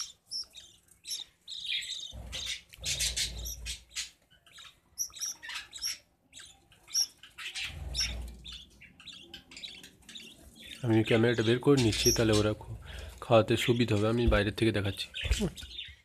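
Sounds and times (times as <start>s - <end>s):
budgerigars chirping: 0.0s - 14.3s.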